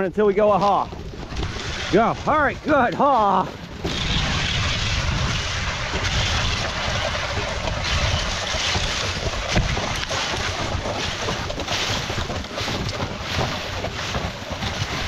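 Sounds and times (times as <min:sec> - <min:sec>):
sled runners scraping over snow: 0:00.0 - 0:15.0
wind rumbling on microphone: 0:00.0 - 0:15.0.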